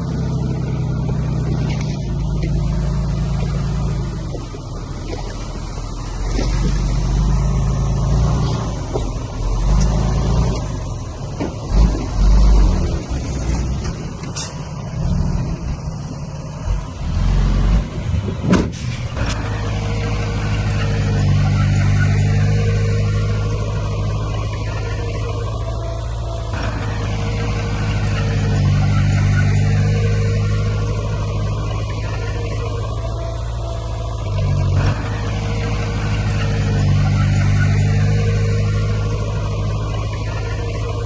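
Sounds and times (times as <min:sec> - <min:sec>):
diesel engines running: 0:00.0 - 0:41.0.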